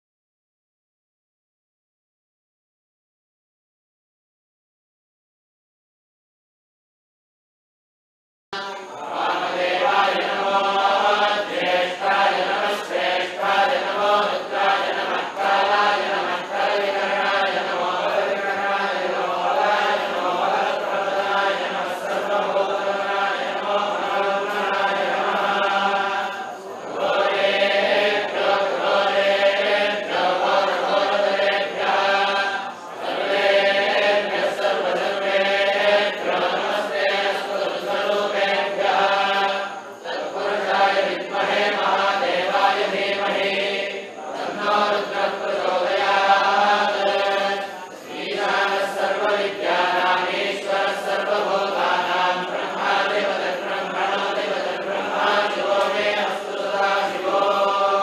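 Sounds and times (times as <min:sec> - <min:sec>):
group chanting: 0:08.6 - 0:58.0.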